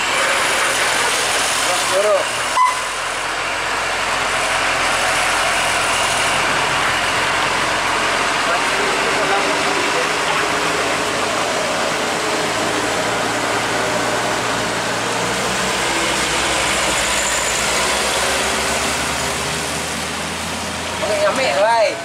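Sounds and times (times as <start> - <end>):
diesel truck engine running: 0.0 - 21.9.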